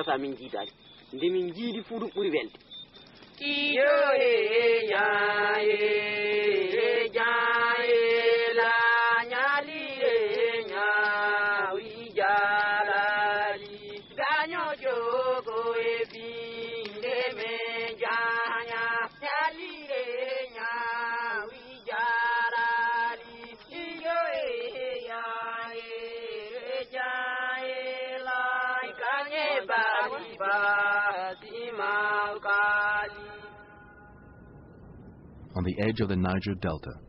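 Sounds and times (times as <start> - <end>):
person singing chant-like melody: 3.4 - 34.2.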